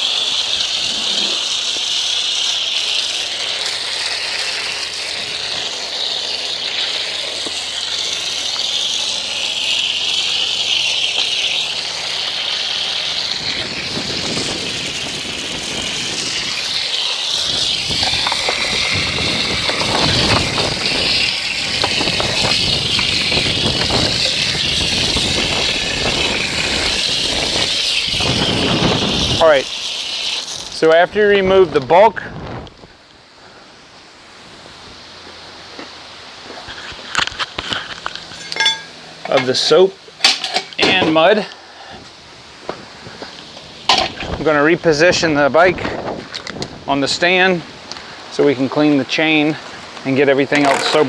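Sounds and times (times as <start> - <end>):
hose spray hissing: 0.0 - 51.0.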